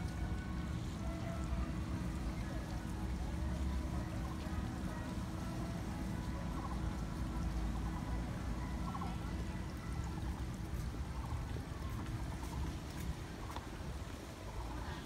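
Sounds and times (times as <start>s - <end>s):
water trickling and pouring: 0.0s - 14.8s.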